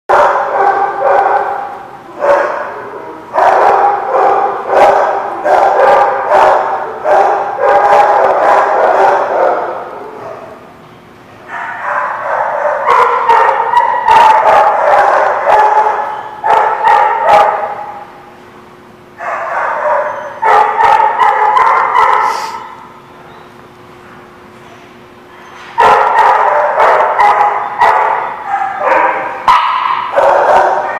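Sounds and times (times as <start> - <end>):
dogs barking: 0.1 - 23.0, 25.3 - 30.9.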